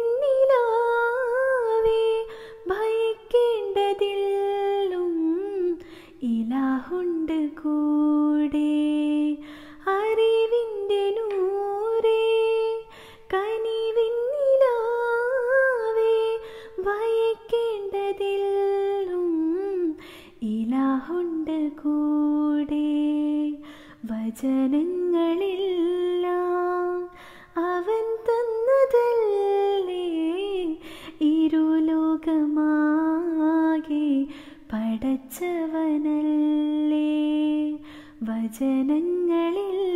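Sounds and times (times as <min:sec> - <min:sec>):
woman singing unaccompanied: 0:00.0 - 0:39.9.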